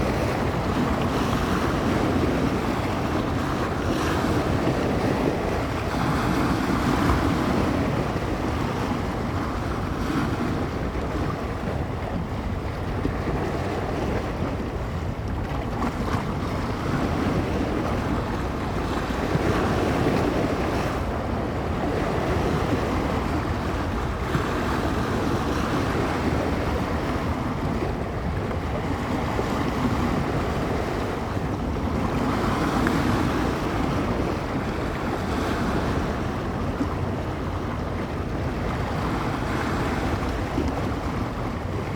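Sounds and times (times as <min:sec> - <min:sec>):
waves breaking on shore: 0:00.0 - 0:41.9
wind rumbling on microphone: 0:00.0 - 0:41.9.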